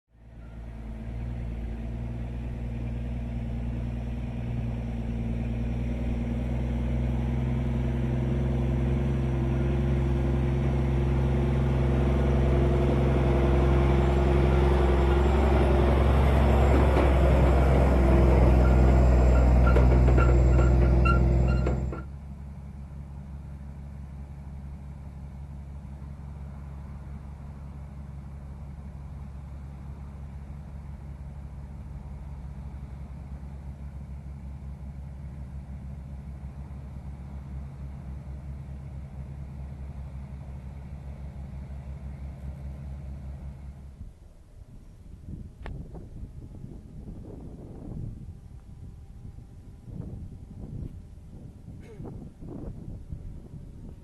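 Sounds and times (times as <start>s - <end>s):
large engine running: 0.1s - 54.0s.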